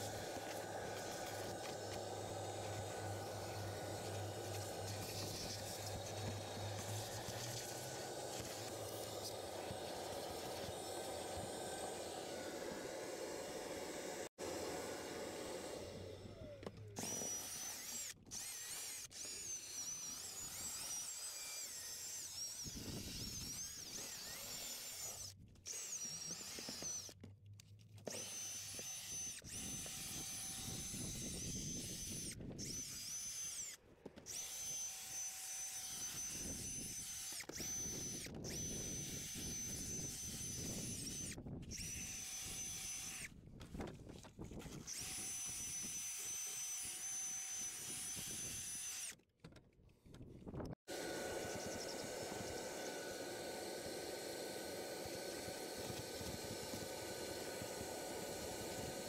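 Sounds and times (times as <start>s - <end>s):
drill motor whining: 0.0s - 27.2s, 28.0s - 43.4s, 44.7s - 49.2s, 50.9s - 59.0s.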